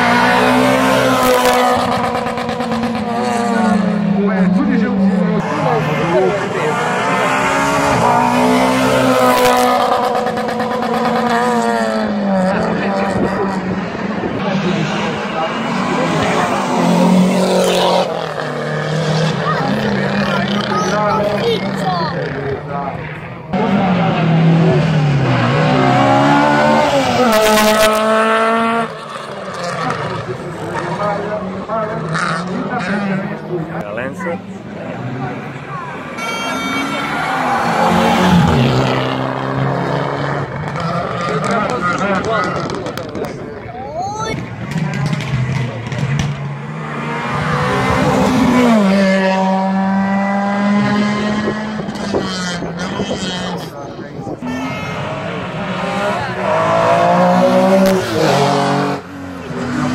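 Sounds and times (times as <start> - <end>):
rally car engine accelerating: 0.0 - 36.2, 36.9 - 59.9.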